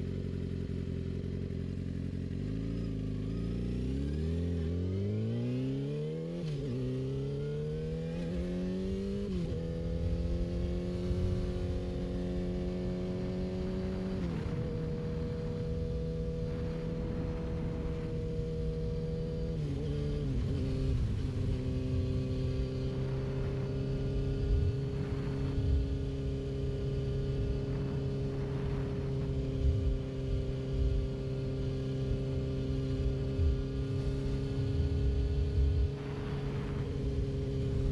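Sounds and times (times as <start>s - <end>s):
low rumble of wind: 0.0s - 37.9s
motorcycle engine accelerating: 0.0s - 37.9s.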